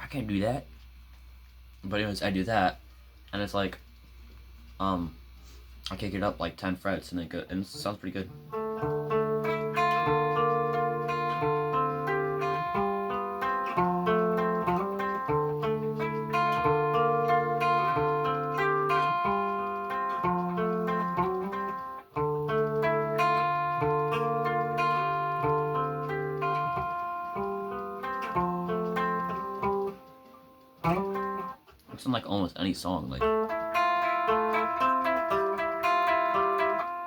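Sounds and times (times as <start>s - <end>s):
guitar arpeggio picking: 7.0s - 37.0s.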